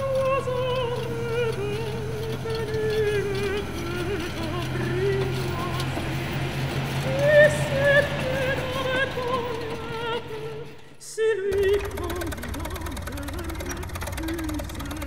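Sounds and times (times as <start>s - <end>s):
rattling rumble: 0.0s - 15.0s
steady low hum: 0.0s - 15.0s.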